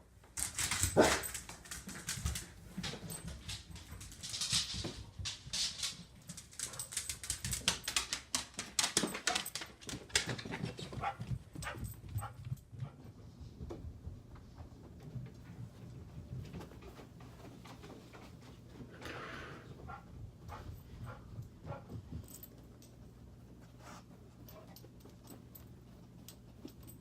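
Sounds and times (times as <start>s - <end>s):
dog clicks and scuffles: 0.1s - 18.9s, 19.9s - 27.0s.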